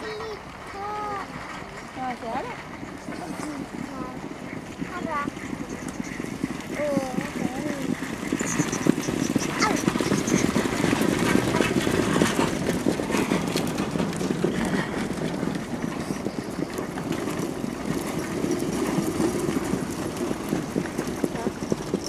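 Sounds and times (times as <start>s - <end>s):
hooves trotting on track: 0.0s - 22.0s.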